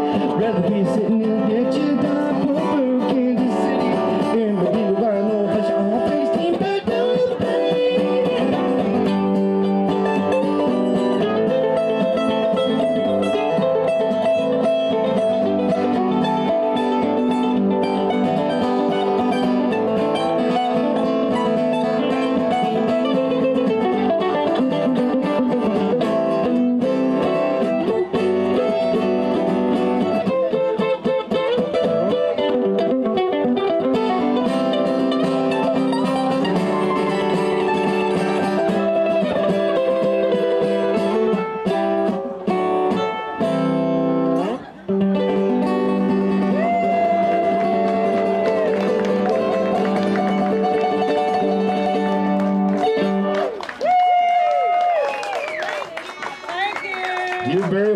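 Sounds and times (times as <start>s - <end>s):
mandolin: 0.0s - 53.8s
acoustic guitar: 0.0s - 57.9s.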